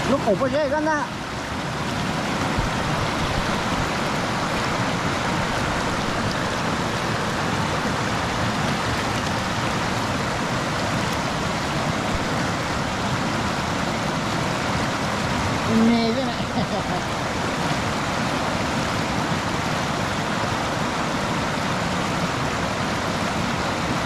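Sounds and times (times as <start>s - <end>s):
river rushing over rapids: 0.0s - 24.0s.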